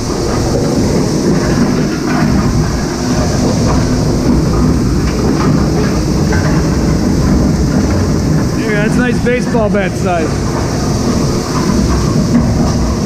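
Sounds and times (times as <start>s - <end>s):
shredder rumbling: 0.0s - 13.0s.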